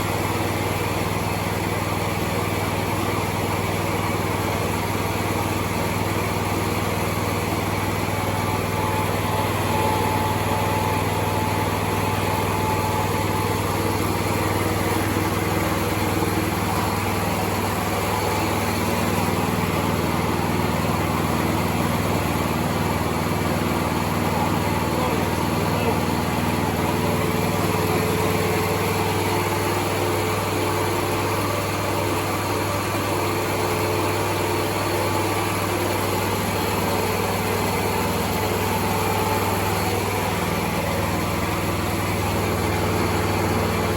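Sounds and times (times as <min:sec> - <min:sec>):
small petrol engine running: 0:00.0 - 0:43.9.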